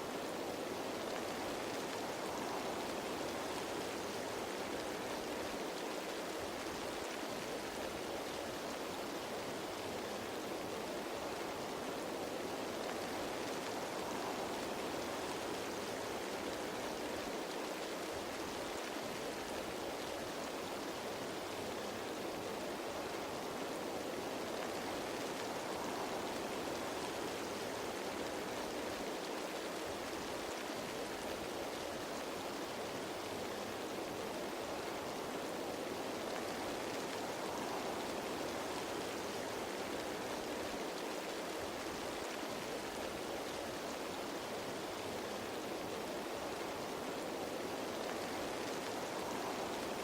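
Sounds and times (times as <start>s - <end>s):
rain on leaves: 0.0s - 50.0s.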